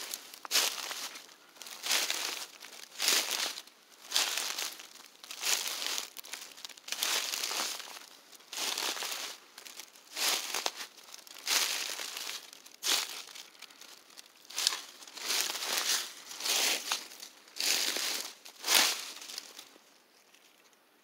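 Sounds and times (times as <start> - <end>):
dry leaves crunching: 0.0 - 19.8.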